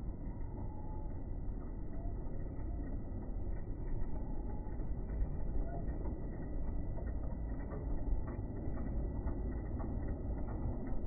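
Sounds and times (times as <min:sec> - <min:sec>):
low train rumble: 0:00.0 - 0:11.0.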